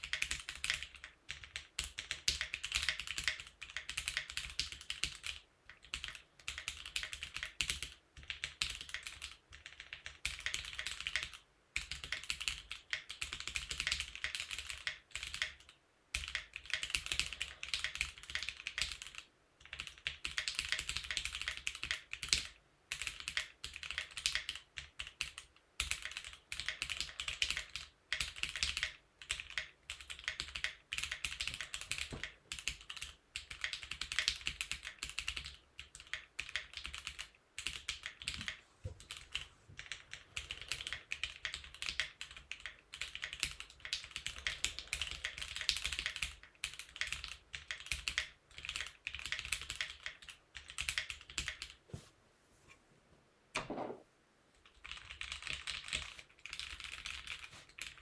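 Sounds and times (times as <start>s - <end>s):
mechanical keyboard typing clacks: 0.0s - 51.8s, 54.7s - 58.0s.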